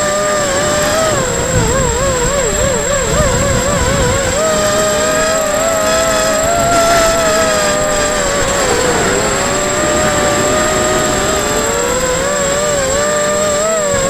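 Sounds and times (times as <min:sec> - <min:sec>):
drone motors whining: 0:00.0 - 0:14.0
rushing wind noise: 0:00.0 - 0:14.0.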